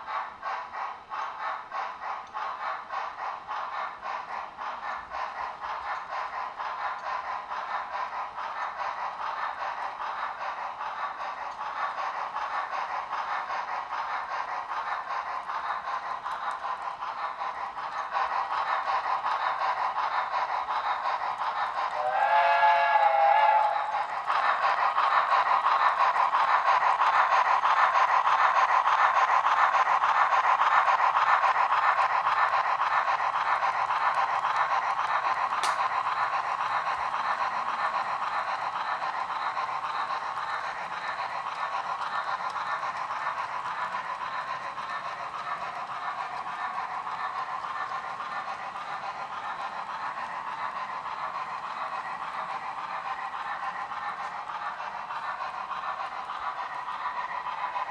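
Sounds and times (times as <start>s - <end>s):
model steam locomotive chuffing: 0.0s - 57.9s.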